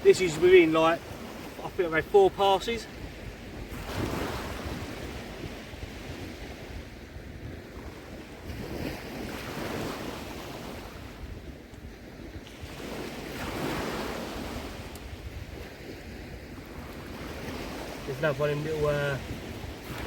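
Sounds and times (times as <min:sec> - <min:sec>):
small waves washing on sand: 0:00.0 - 0:20.0
wind buffeting microphone: 0:00.0 - 0:20.0.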